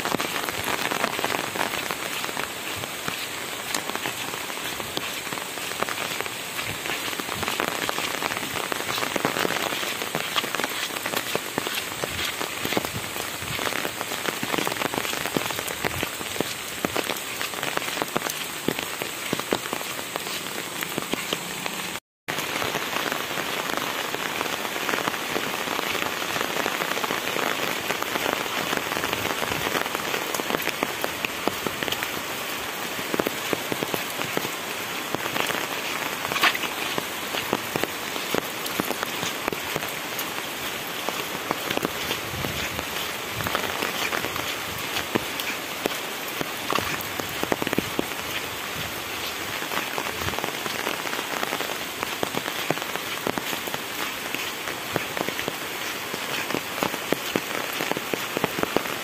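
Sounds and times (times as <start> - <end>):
rain pattering on an umbrella: 0.0 - 59.0
rain splashing on wet road: 0.0 - 59.0.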